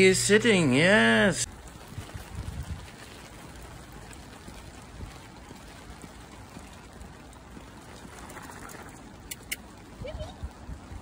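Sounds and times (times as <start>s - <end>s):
rain on wet paving: 0.0s - 11.0s.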